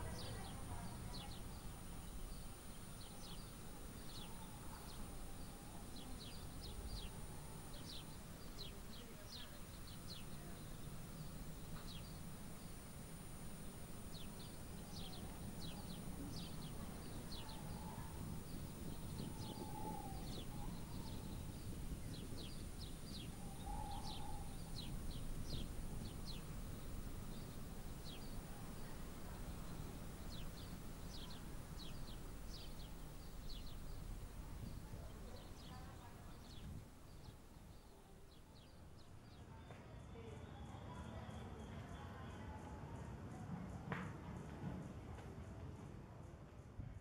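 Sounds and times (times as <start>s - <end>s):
low background rumble: 0.0s - 39.1s
small birds chirping: 0.0s - 39.7s.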